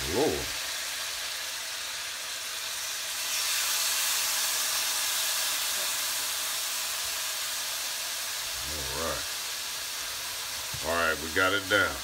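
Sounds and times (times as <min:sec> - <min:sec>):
steaks sizzling in hot oil: 0:00.0 - 0:12.0.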